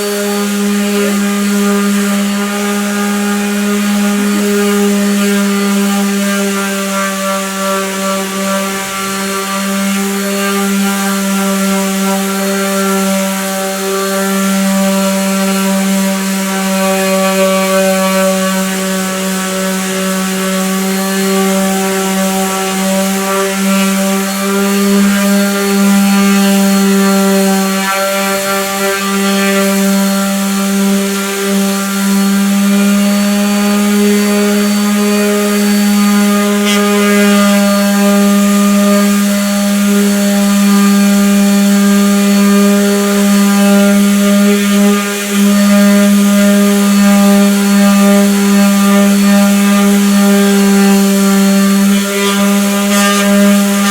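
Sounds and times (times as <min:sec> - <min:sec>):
electric power tool humming: 0:00.0 - 0:53.9.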